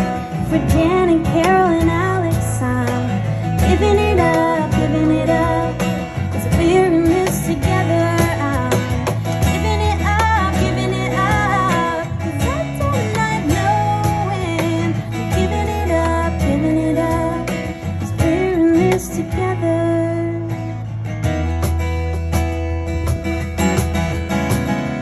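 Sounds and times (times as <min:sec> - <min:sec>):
woman singing: 0:00.0 - 0:20.9
cajon beat: 0:00.0 - 0:25.0
strummed acoustic guitar: 0:00.0 - 0:25.0.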